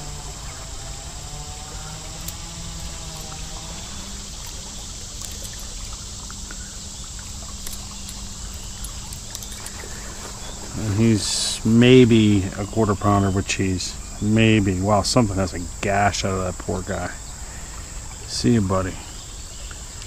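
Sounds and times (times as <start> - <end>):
river water trickling: 0.0 - 20.0.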